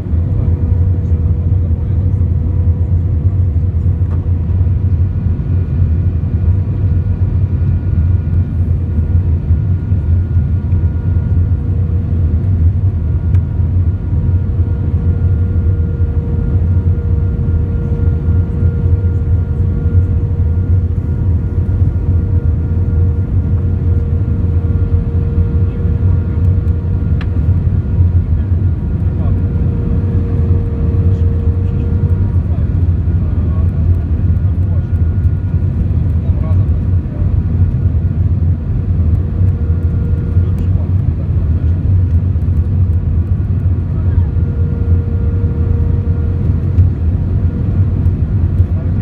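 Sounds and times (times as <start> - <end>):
aircraft cabin rumble: 0.0 - 49.0
engine hum and whine: 0.0 - 49.0.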